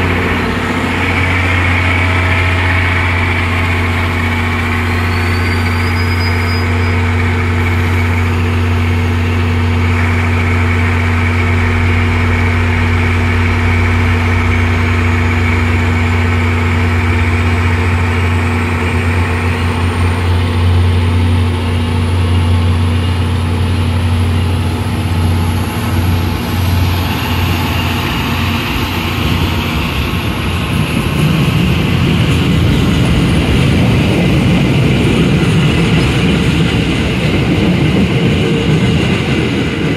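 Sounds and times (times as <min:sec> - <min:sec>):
diesel locomotive engine drone: 0:00.0 - 0:39.9
train wheels rumbling on rails: 0:00.0 - 0:39.9.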